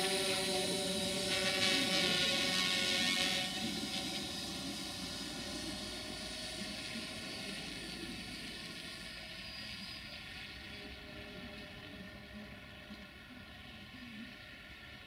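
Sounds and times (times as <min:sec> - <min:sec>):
drone propellers whining: 0:00.0 - 0:14.3.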